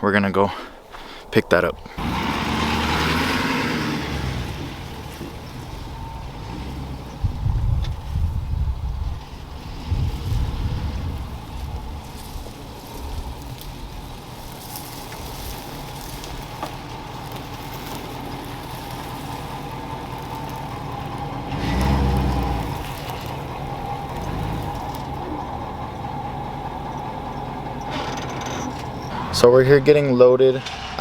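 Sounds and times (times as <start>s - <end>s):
pickup truck engine rumbling: 1.0s - 31.0s.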